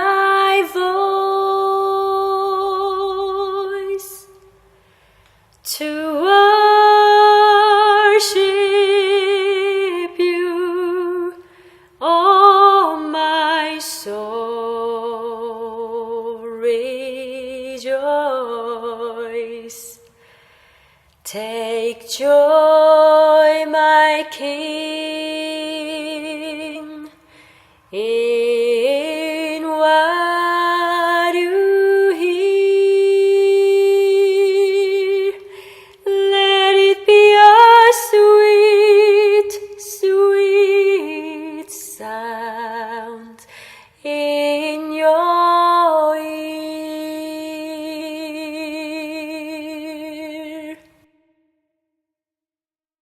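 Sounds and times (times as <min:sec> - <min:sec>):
woman singing unaccompanied: 0:00.0 - 0:04.5, 0:05.6 - 0:11.4, 0:12.0 - 0:20.1, 0:21.2 - 0:27.2, 0:27.9 - 0:51.0.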